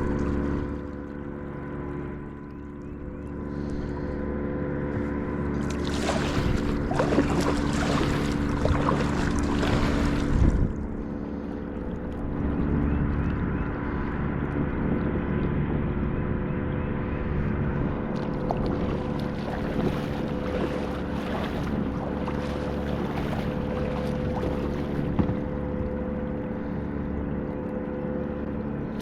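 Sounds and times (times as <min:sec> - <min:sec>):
steady hum: 0:00.0 - 0:29.0
water splashing along hull: 0:00.0 - 0:29.0.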